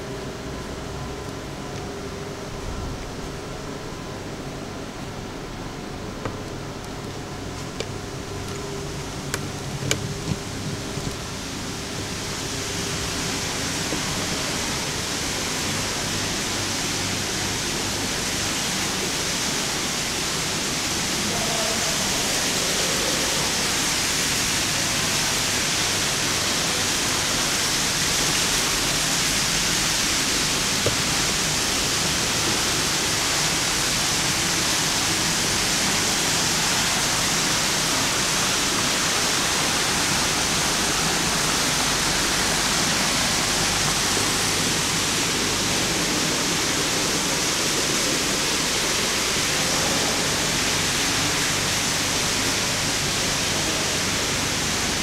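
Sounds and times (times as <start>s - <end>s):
water rushing into a pond: 10.4s - 55.0s.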